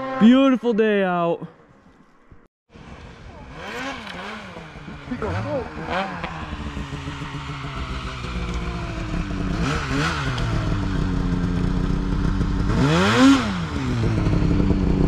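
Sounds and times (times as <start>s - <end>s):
snowmobile engine revving: 0.0s - 0.8s, 2.8s - 15.0s.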